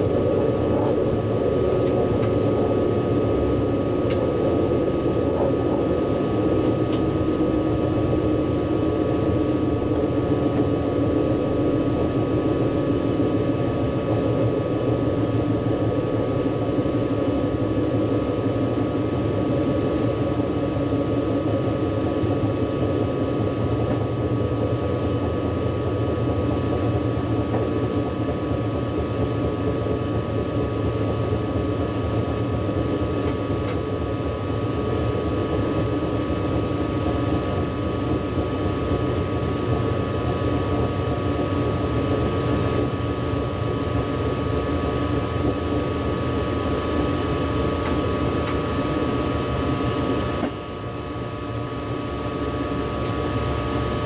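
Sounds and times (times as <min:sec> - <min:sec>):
constant high whine: 0:00.0 - 0:54.0
train rumble and ventilation hum: 0:00.0 - 0:54.0.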